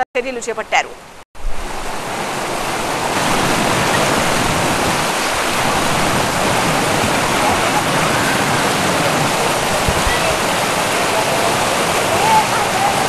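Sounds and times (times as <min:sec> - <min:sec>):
floodwater rushing: 0:01.4 - 0:13.0.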